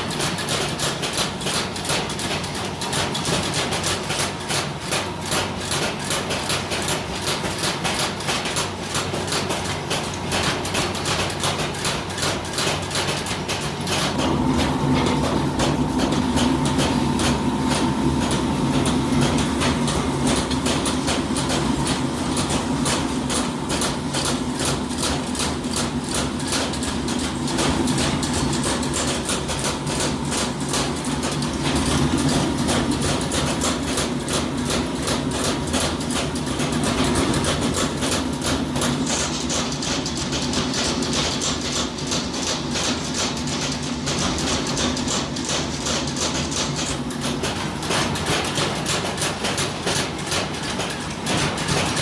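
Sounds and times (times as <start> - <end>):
factory machinery humming: 0.1 - 52.0.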